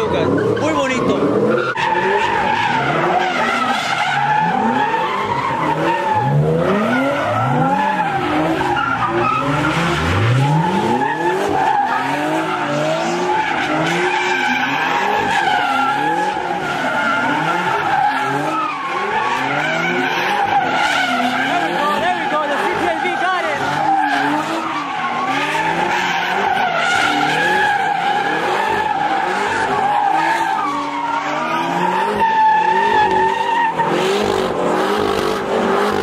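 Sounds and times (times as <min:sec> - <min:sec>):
car engine revving: 0:00.0 - 0:36.0
tire squealing: 0:00.0 - 0:36.0.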